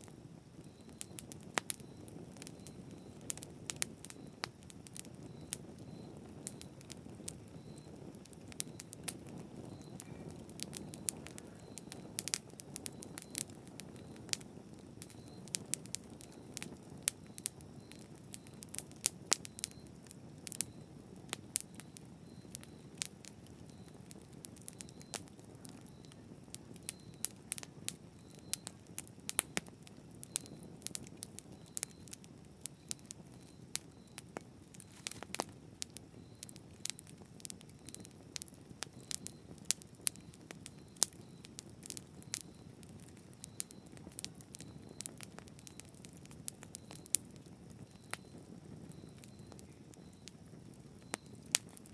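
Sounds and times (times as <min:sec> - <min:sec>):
campfire crackling and popping: 0:00.0 - 0:51.9
low rumble of flames: 0:00.0 - 0:51.9.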